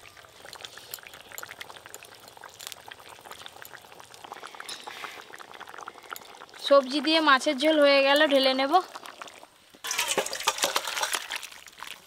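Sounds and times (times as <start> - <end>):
curry bubbling in a metal pot: 0.0 - 12.0.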